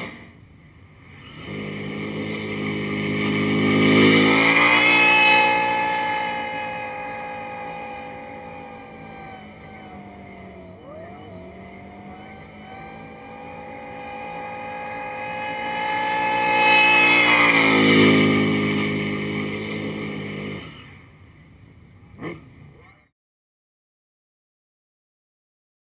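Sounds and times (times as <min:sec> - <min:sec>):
car engine at high revs: 0:00.0 - 0:21.2.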